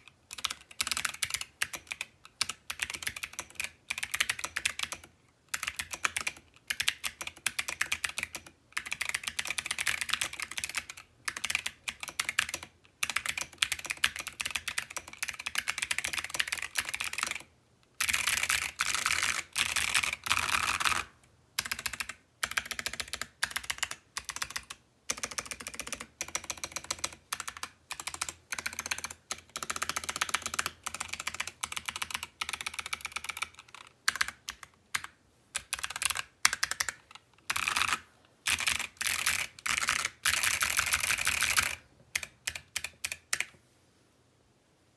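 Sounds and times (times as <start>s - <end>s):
fast mechanical keyboard typing: 0.0s - 43.5s.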